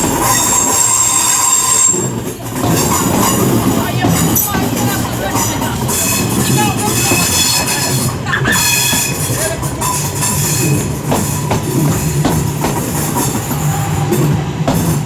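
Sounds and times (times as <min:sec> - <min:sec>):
electric train humming: 0:00.0 - 0:15.0
wheels clicking over rail joints: 0:00.0 - 0:15.0.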